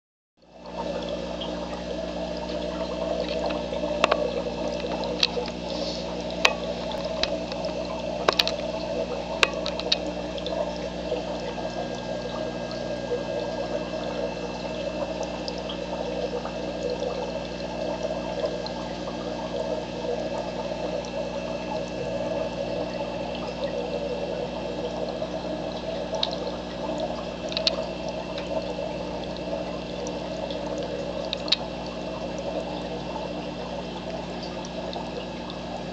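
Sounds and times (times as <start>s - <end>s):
filter hum: 0.4s - 35.9s
water pouring and trickling: 0.4s - 35.9s.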